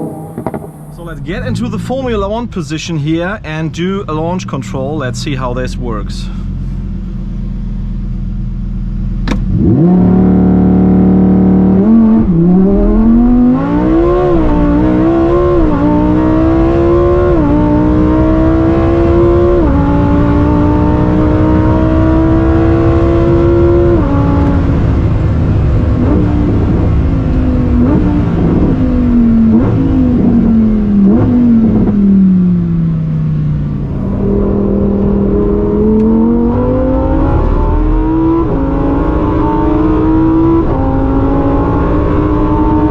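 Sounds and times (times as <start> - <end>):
car engine revving and accelerating: 0.0 - 2.4, 9.0 - 42.9.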